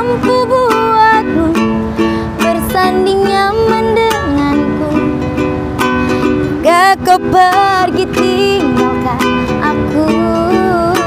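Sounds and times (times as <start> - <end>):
acoustic plucked strings: 0.0 - 11.0.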